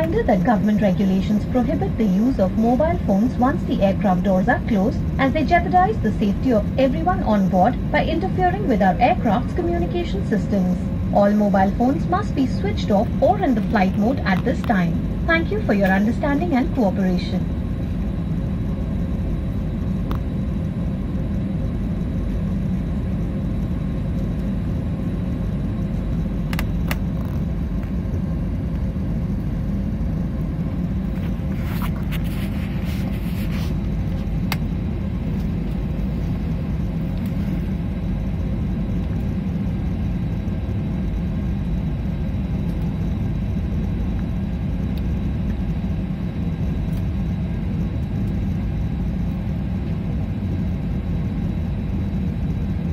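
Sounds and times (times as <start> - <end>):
airliner engines rumbling in cabin: 0.0 - 52.9.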